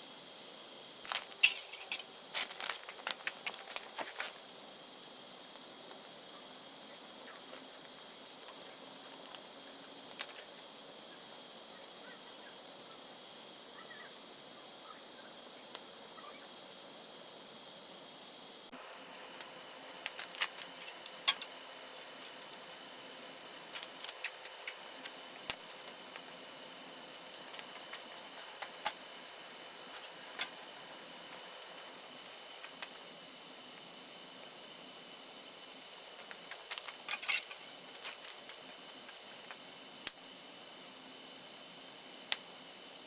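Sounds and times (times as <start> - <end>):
low hiss of fire: 0.0 - 43.0
wood fire crackling and popping: 0.2 - 11.6, 18.7 - 43.0.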